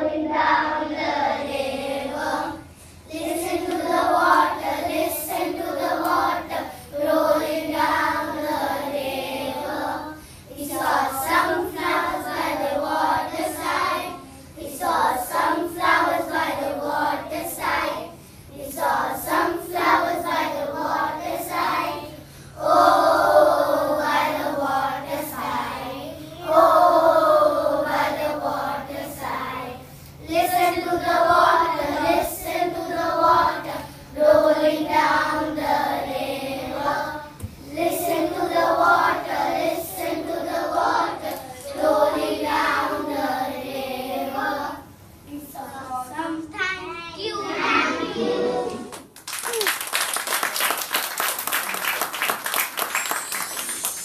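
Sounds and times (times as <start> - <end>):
children singing in unison: 0.0 - 44.8, 47.5 - 48.9.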